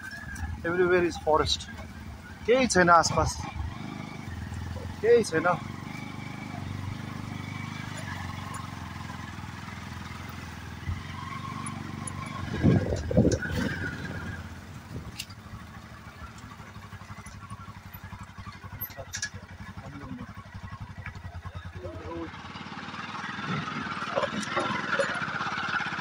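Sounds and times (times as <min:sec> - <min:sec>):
small motorcycle engine throbbing: 0:00.0 - 0:26.0.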